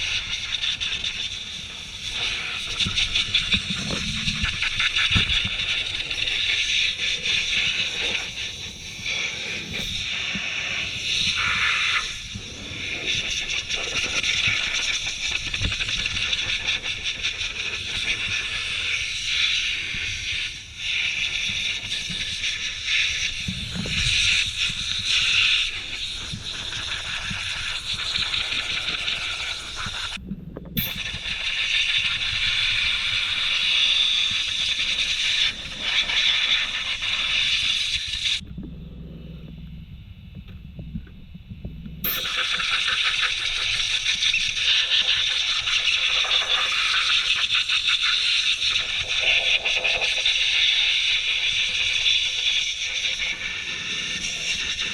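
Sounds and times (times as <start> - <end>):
electric rc buggy hiss: 0.0 - 30.2, 30.9 - 38.4, 42.0 - 54.9.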